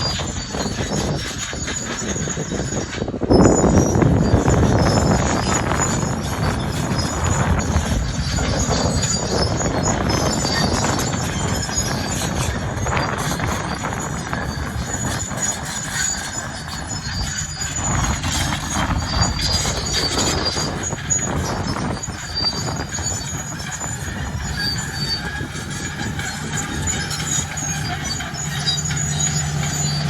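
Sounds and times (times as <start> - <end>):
bulldozer diesel engine: 0.0 - 30.0
high-pitched track squeals: 0.0 - 30.0
steel tracks clanking: 0.0 - 30.0.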